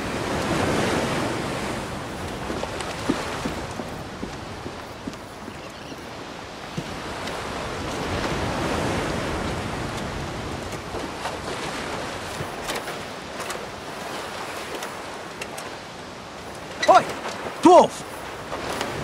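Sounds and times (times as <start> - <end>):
surf washing on beach: 0.0 - 19.0.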